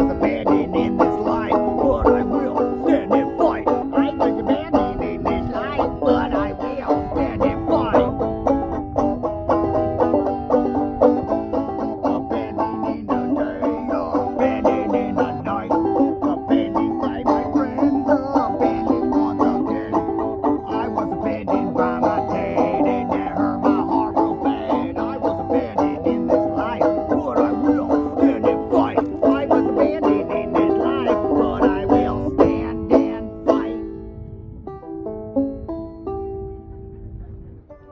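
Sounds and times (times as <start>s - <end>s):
bluegrass string band music: 0.0s - 34.1s, 34.7s - 37.9s
fast banjo picking: 0.0s - 37.9s.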